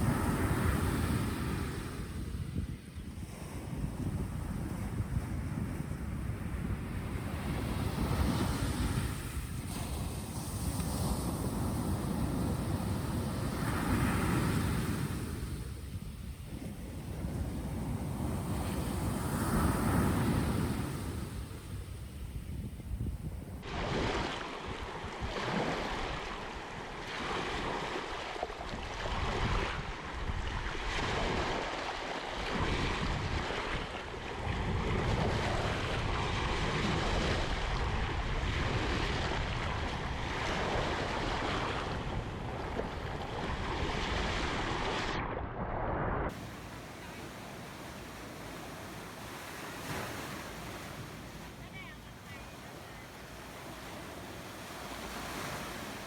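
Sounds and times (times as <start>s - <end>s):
wind rumbling on microphone: 0.0s - 56.0s
ocean surf breaking: 6.6s - 22.3s, 23.5s - 56.0s.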